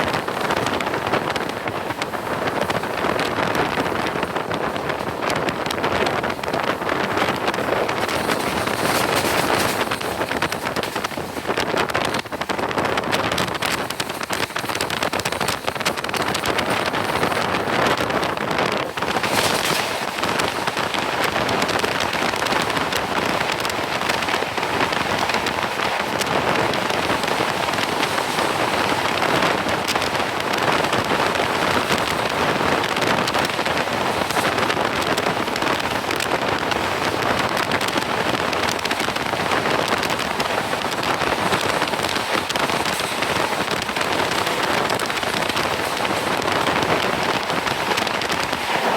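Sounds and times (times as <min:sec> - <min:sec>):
heavy rain rushing: 0:00.0 - 0:48.9.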